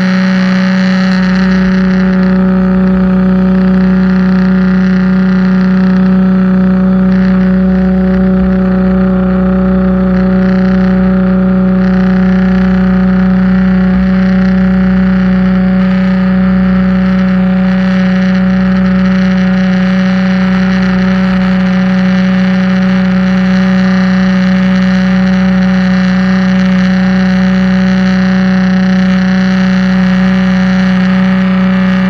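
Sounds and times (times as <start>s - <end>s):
pressure washer running: 0.0s - 32.0s.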